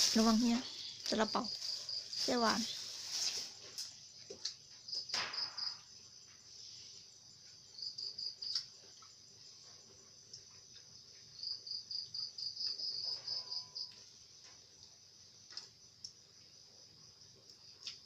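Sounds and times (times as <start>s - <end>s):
crickets chirping: 0.0s - 18.0s
high insect trill: 0.0s - 18.0s.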